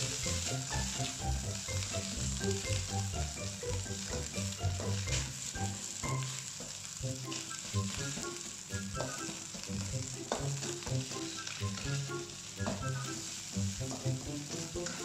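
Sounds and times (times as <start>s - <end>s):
rice and egg sizzling in wok: 0.0s - 15.0s
spatula scraping and knocking wok: 0.0s - 15.0s.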